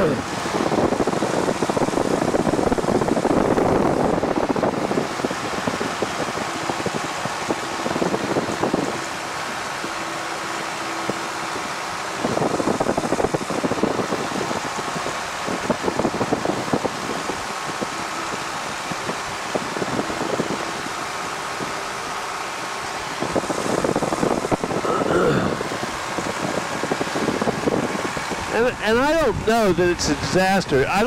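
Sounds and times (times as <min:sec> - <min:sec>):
airplane engine running steadily: 0:00.0 - 0:31.0
wind buffeting microphone: 0:00.0 - 0:31.0.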